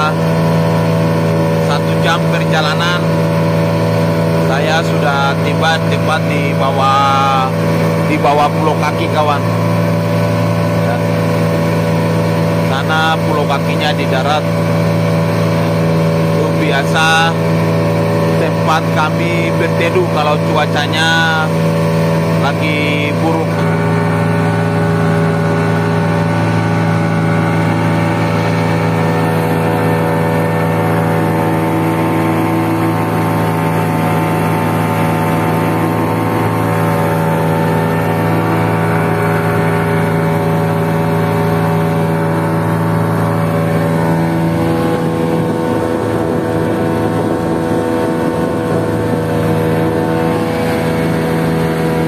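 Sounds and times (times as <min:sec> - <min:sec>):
outboard motors droning: 0:00.0 - 0:52.0
water rushing past hull: 0:00.0 - 0:52.0.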